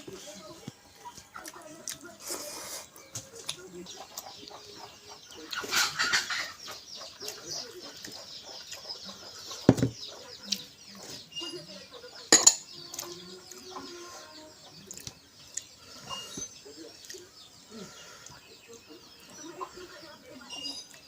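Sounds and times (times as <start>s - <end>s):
chickens clucking: 0.0s - 21.0s
small birds chirping: 0.0s - 21.0s.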